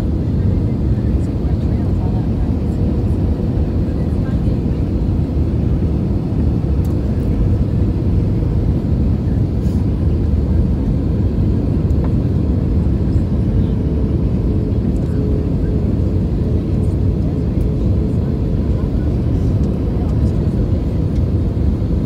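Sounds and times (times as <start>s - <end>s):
airliner engines rumbling: 0.0s - 22.0s.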